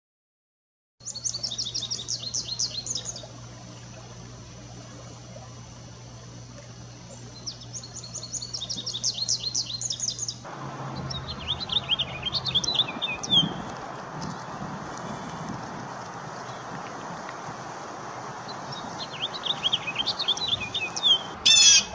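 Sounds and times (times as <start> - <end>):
small songbirds chirping: 1.0 - 4.1, 6.8 - 21.9.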